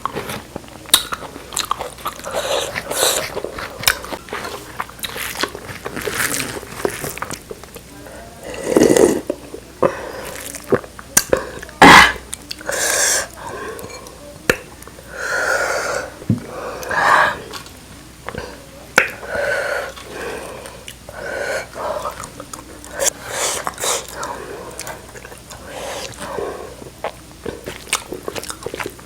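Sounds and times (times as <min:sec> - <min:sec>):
mouth eating noises: 0:00.0 - 0:29.0
swallowing: 0:00.0 - 0:29.0.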